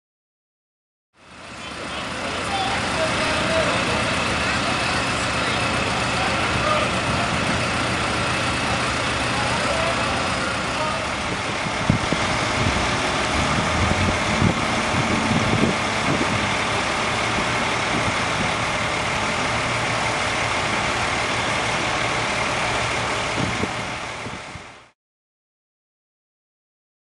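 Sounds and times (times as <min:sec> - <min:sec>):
truck engine idling: 0:01.2 - 0:24.9.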